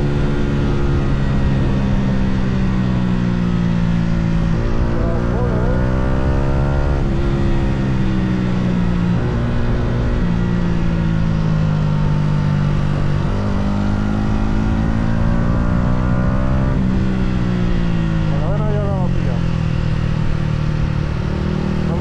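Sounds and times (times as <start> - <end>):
motorcycle engine revving through gears: 0.0 - 22.0.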